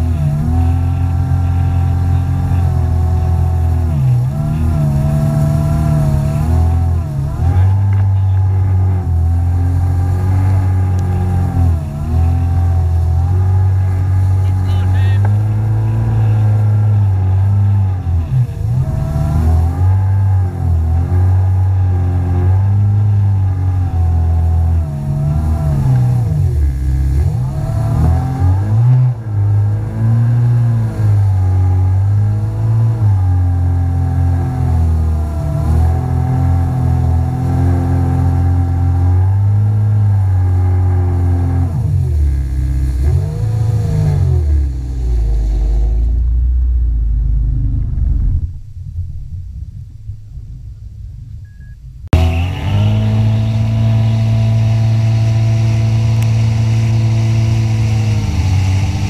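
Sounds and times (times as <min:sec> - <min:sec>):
jet ski engine running: 0:00.0 - 0:59.0.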